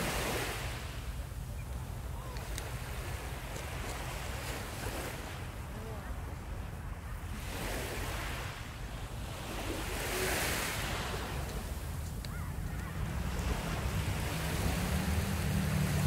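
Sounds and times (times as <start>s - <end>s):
sea surf washing onto beach: 0.0s - 16.0s
wind rumble on microphone: 0.0s - 16.0s.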